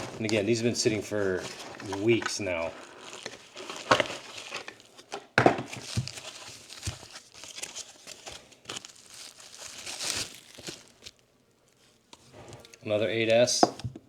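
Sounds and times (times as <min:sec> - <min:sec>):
plastic packaging crinkling: 0:00.0 - 0:13.5.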